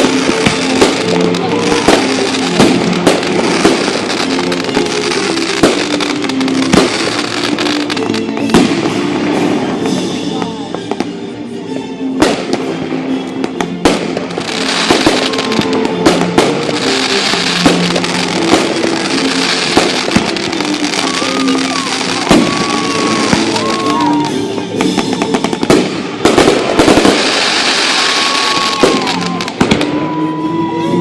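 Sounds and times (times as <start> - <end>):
fireworks bangs and crackling: 0.0 - 31.0
music playing: 0.0 - 31.0.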